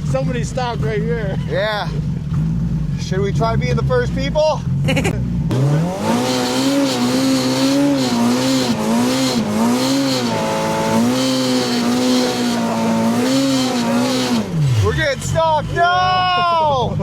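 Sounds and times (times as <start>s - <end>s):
engine at high revs: 0.0s - 15.8s.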